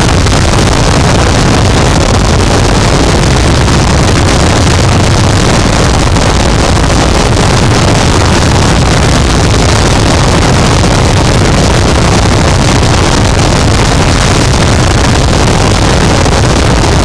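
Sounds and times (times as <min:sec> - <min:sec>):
harsh distorted static noise: 0:00.0 - 0:17.0.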